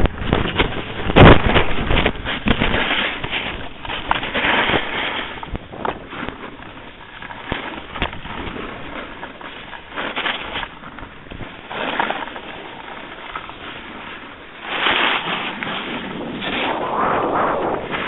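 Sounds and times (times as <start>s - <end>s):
wind rushing on microphone: 0.0s - 18.0s.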